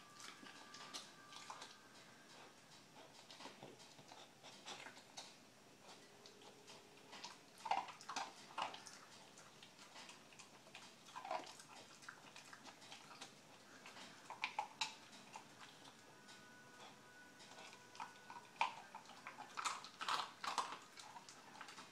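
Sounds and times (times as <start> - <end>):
dog crunching dry kibble: 0.0 - 21.9.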